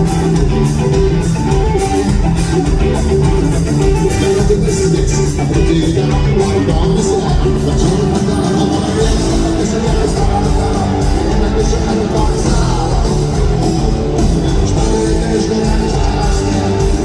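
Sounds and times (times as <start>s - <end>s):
bass guitar: 0.0s - 17.0s
distorted electric guitars: 0.0s - 17.0s
drums and cymbals: 0.0s - 17.0s.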